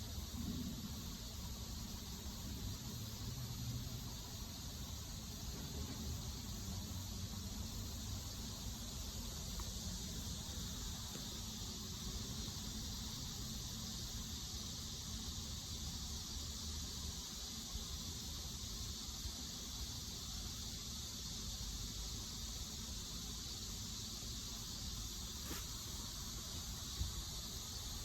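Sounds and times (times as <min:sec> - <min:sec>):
cicada buzzing: 0:00.0 - 0:28.0.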